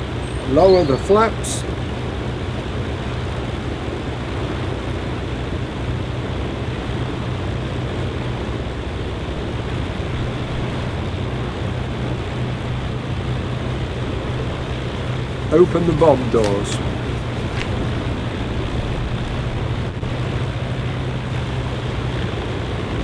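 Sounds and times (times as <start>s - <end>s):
aircraft engines idling: 0.0s - 23.0s
propeller noise: 0.0s - 23.0s.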